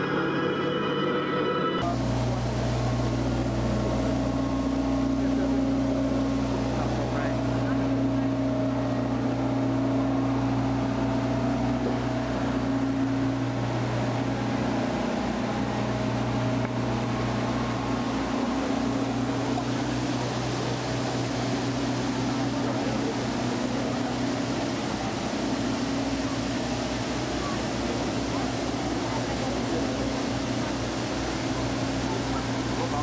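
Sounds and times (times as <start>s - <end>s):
submarine engine humming: 0.0s - 33.0s
water noise: 0.0s - 33.0s.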